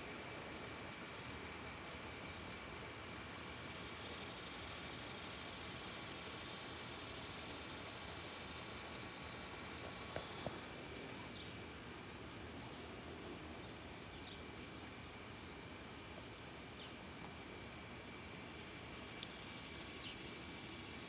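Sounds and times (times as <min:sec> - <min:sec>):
low hiss and rumble: 0:00.0 - 0:21.0.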